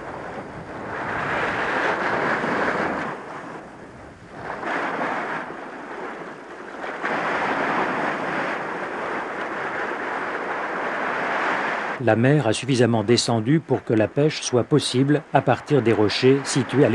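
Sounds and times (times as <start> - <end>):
surf breaking around rocks: 0.0 - 16.9.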